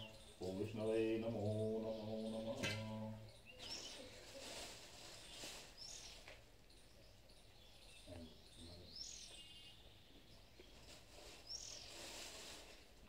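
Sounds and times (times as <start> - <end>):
faint bird chirps: 0.0 - 12.6
quiet outdoor ambience: 0.0 - 13.0.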